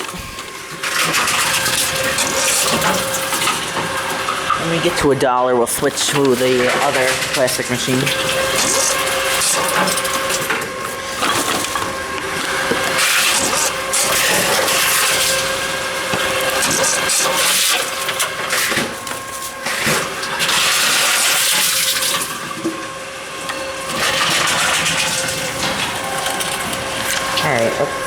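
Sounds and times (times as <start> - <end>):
shredder grinding plastic bottles: 0.0 - 28.0
steady machine hum: 0.0 - 28.0.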